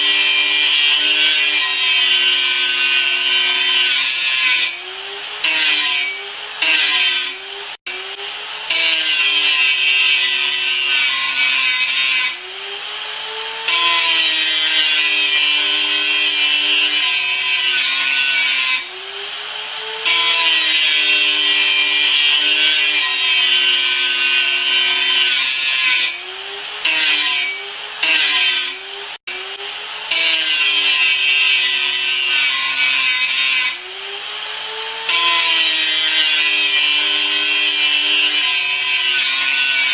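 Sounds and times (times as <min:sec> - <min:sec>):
electric grinder grinding: 0:00.0 - 0:39.9.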